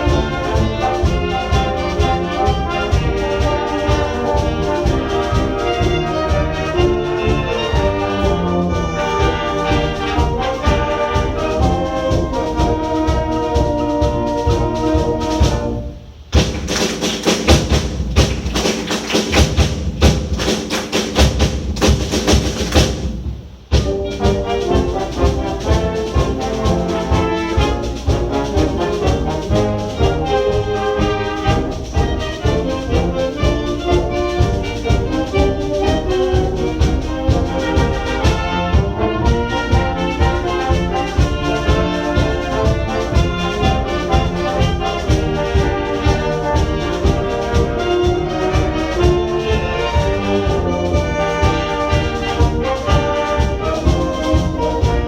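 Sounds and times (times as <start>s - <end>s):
loud percussion strikes: 0.0s - 55.0s
wind band playing: 0.0s - 55.0s.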